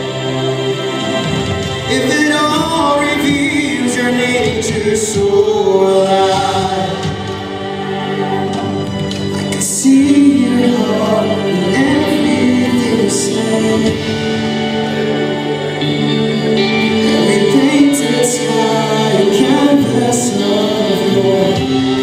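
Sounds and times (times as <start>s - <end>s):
band with guitar and keyboard: 0.0s - 22.0s
voices singing together: 0.0s - 22.0s.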